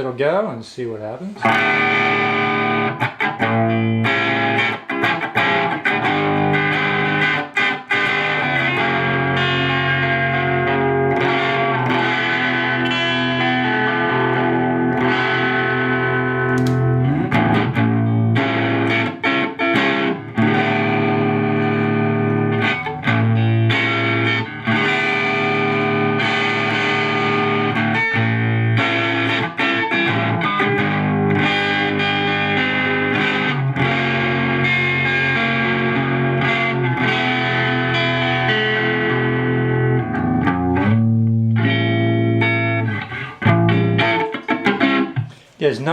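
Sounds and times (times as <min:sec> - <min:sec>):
overdriven electric guitar chords: 0:01.4 - 0:45.5.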